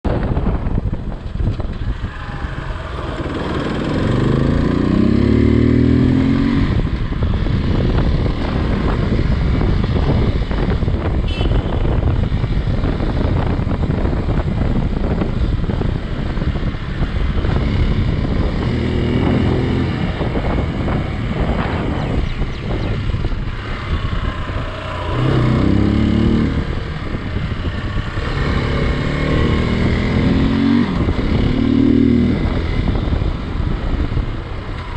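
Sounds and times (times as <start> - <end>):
motorcycle engine revving: 1.0 - 34.9.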